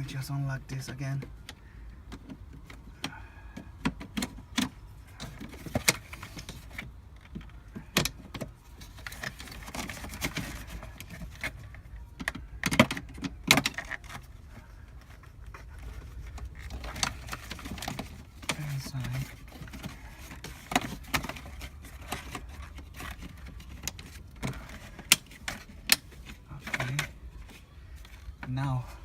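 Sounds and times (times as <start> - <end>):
plastic parts clicking and knocking: 0.8 - 28.6.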